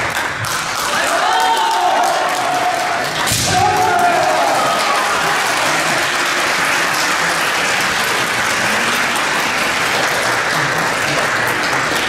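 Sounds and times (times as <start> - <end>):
spectators applauding: 0.0 - 12.0.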